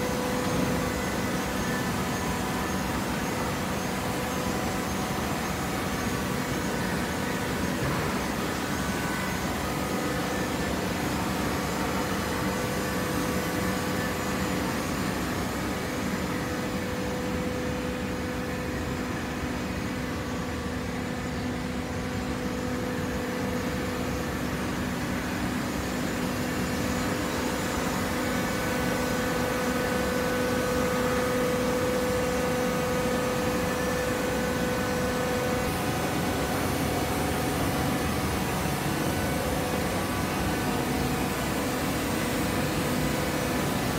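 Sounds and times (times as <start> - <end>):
constant machine whine: 0.0 - 43.9.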